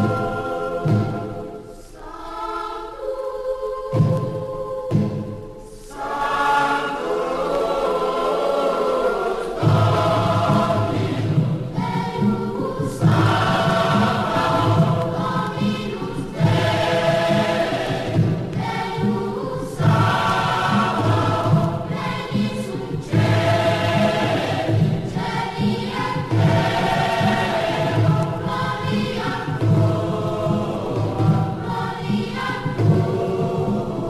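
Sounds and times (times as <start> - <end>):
choir singing held chords: 0.0 - 34.0.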